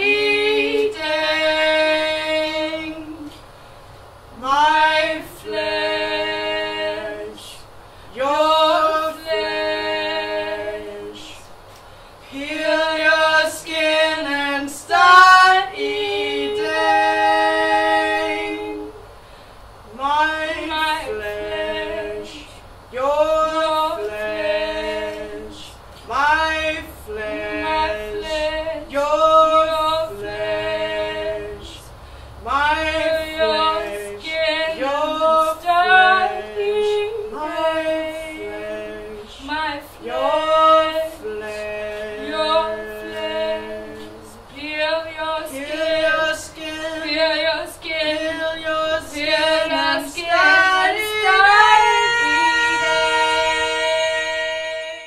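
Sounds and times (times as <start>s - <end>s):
women singing wordless lines: 0.0s - 55.0s.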